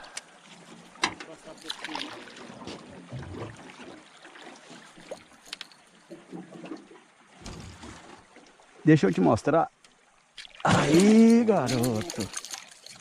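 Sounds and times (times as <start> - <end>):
water sloshing around boat: 0.0 - 13.0.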